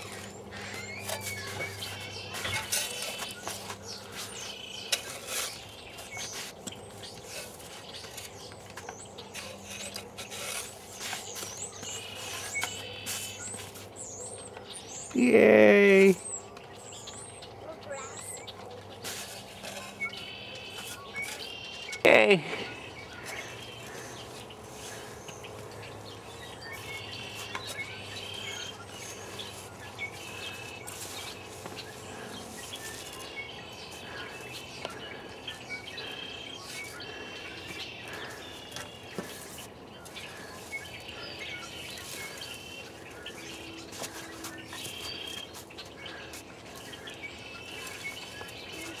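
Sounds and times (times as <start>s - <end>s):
outdoor background noise: 0.0s - 49.0s
small birds chirping: 0.0s - 49.0s.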